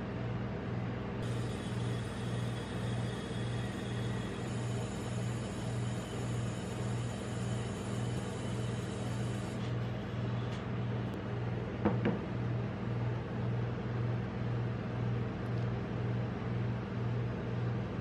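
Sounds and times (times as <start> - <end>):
refrigeration compressor hum: 0.0 - 18.0.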